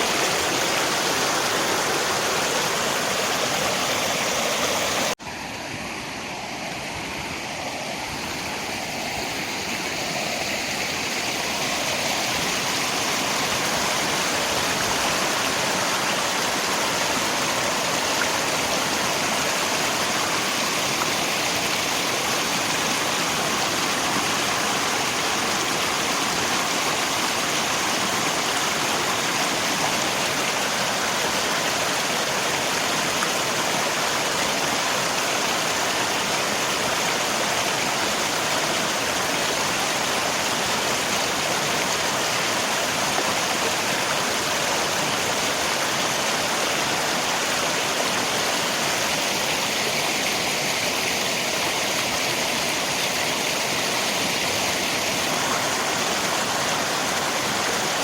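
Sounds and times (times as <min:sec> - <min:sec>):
rain: 0:00.0 - 0:58.0
river water flowing: 0:00.0 - 0:58.0.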